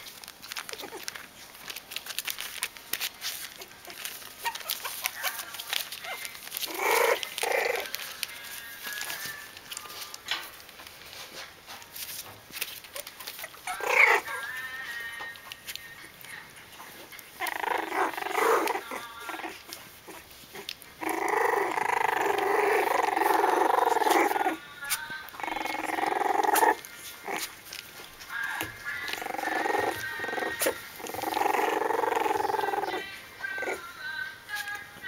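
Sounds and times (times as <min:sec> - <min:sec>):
puppies play-growling: 0:00.0 - 0:33.9
puppies whining: 0:00.0 - 0:35.0.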